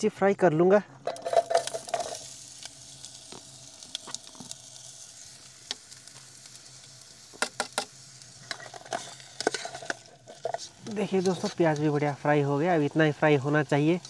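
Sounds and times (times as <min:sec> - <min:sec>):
hot oil sizzling in a pan: 0:01.0 - 0:14.0.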